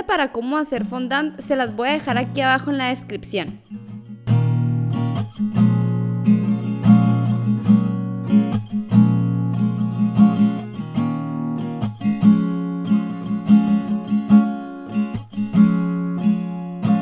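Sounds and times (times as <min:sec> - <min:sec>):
acoustic guitar strumming chords: 0:00.8 - 0:17.0.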